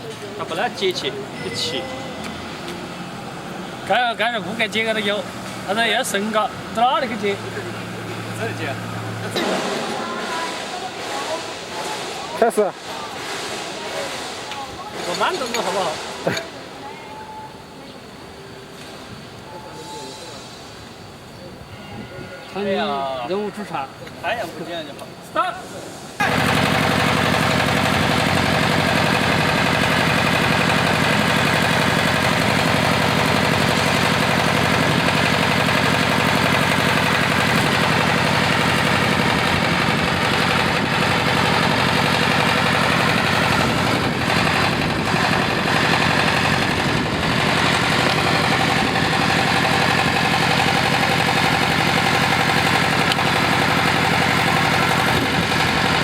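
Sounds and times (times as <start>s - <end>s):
drilling rig engine running: 0.0s - 16.8s, 26.2s - 56.0s.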